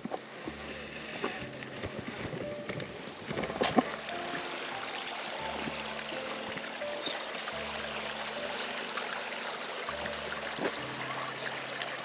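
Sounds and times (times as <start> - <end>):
stream water over rocks: 0.0 - 12.0.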